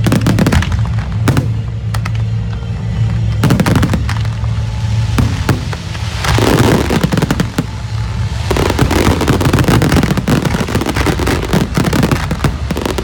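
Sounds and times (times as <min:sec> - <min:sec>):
fireworks cracking and banging: 0:00.0 - 0:13.0
steady low rumble: 0:00.0 - 0:13.0.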